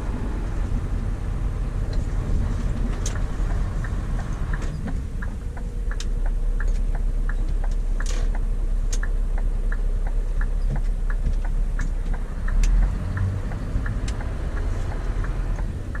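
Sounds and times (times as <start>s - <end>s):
truck engine rumbling: 0.0s - 16.0s
light regular ticking: 1.9s - 16.0s.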